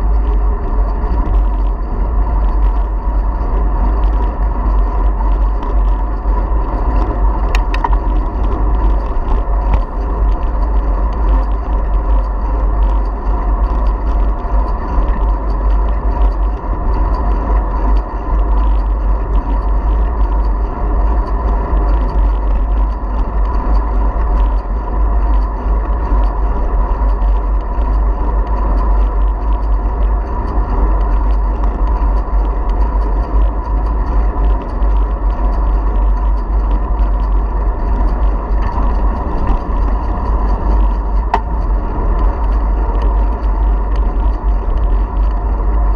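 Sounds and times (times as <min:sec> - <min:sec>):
bicycle tyres on path: 0:00.0 - 0:45.9
wind on microphone: 0:00.0 - 0:45.9.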